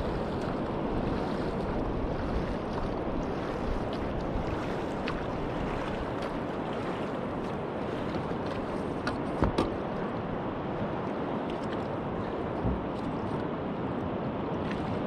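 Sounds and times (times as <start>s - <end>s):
ocean surf: 0.0s - 15.0s
wind on microphone: 0.0s - 15.0s.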